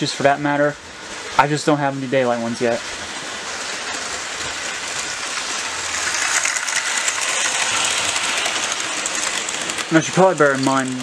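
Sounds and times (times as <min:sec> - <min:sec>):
model train wheels rattling: 0:00.0 - 0:11.0.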